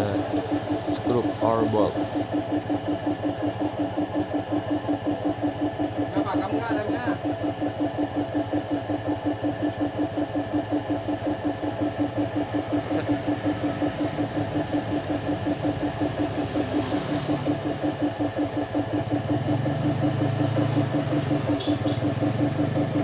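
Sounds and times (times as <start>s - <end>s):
engine pulsing steadily: 0.0s - 23.0s.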